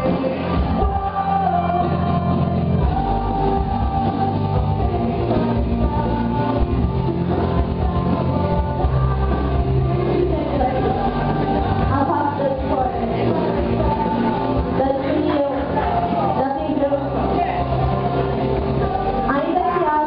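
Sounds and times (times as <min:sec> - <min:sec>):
music with singing: 0:00.0 - 0:20.0.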